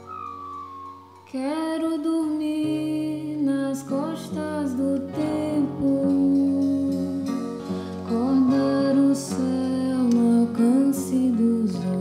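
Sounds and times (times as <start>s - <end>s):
instrumental accompaniment: 0.0s - 12.0s
woman singing held notes: 1.3s - 12.0s.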